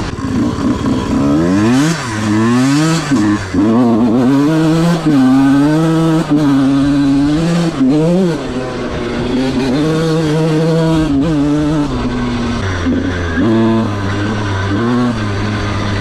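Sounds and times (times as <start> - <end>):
two-stroke engine under throttle: 0.0 - 16.0.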